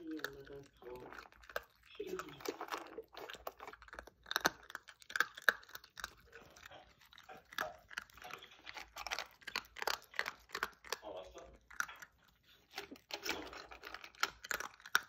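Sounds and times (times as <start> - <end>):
puppy crunching dry kibble: 0.0 - 15.0.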